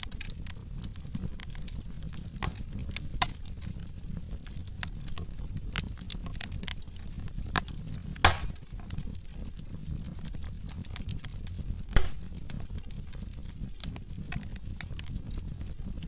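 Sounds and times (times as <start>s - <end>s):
low rumble of flame: 0.0s - 16.0s
wood fire crackling: 0.0s - 16.0s.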